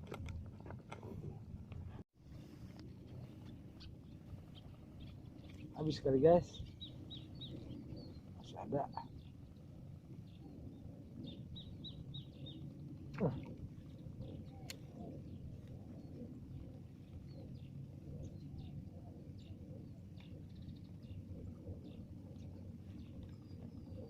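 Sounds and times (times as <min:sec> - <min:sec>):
low outdoor rumble: 0:00.0 - 0:24.0
small birds chirping: 0:03.0 - 0:24.0.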